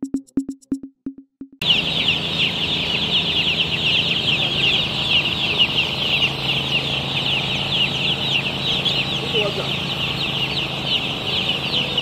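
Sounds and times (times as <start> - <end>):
chicks peeping: 1.6 - 12.0.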